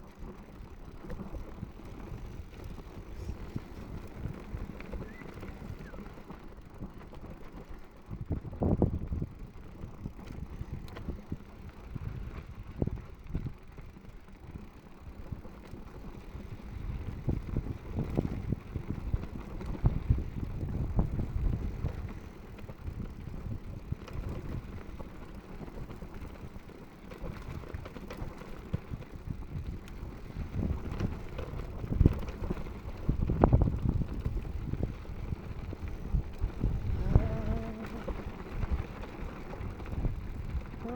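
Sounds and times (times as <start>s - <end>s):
mountain bike rattling on trail: 0.0s - 40.9s.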